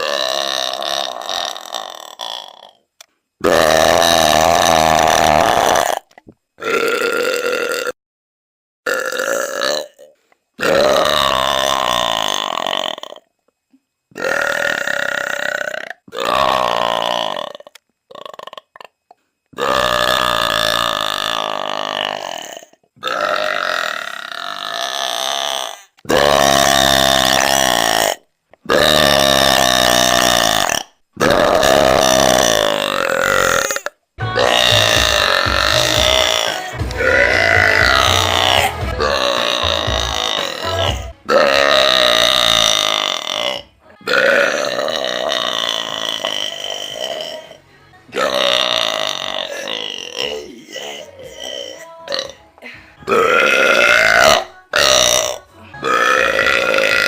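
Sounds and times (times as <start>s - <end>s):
woman belching loudly: 0.0s - 2.8s, 3.4s - 8.0s, 8.9s - 13.2s, 14.1s - 19.0s, 19.6s - 47.6s, 48.2s - 52.4s, 53.0s - 57.0s.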